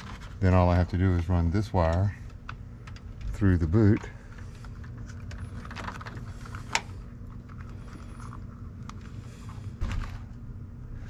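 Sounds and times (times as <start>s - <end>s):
clicks and rustling of wire: 0.0s - 10.4s.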